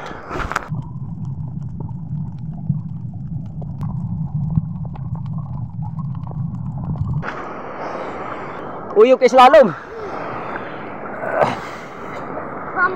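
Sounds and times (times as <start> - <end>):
underwater low rumble: 0.0 - 9.0, 9.7 - 12.9.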